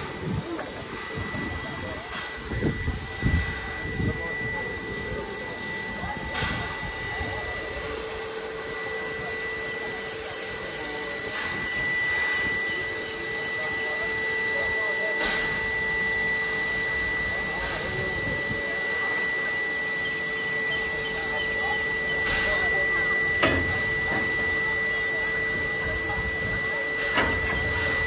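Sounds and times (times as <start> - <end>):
high even whine: 0.0 - 28.0
steam locomotive hissing: 0.0 - 28.0.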